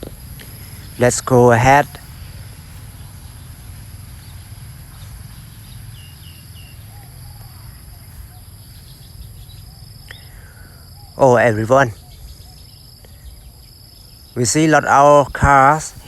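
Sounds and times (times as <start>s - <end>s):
faint bird chirps: 0.0s - 16.0s
insect drone: 0.0s - 16.0s.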